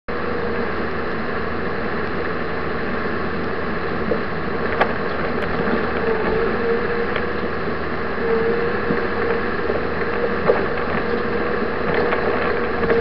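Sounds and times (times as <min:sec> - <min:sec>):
snow vehicle engine and tracks: 0:00.1 - 0:13.0.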